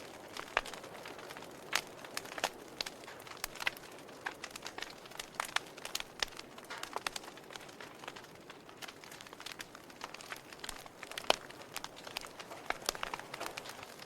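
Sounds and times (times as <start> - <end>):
fire pops: 0.0 - 14.0
soft steady hiss: 0.0 - 14.0
wood fire crackling: 0.0 - 14.0.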